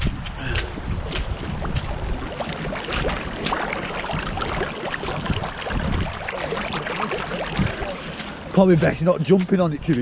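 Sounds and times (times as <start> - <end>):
wind rumbling on microphone: 0.0 - 10.0
squelching on soggy ground: 0.2 - 10.0.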